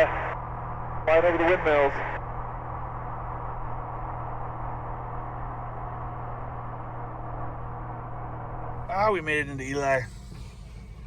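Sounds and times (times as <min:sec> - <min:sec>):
light airplane engine droning: 0:00.0 - 0:11.0.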